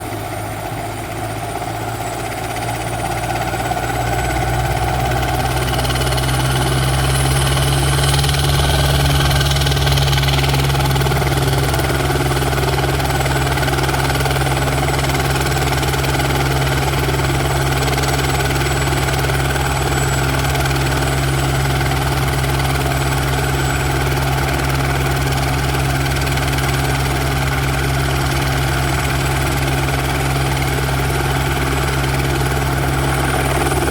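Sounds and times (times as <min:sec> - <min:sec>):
helicopter rotor and turbine drone: 0:00.0 - 0:33.9.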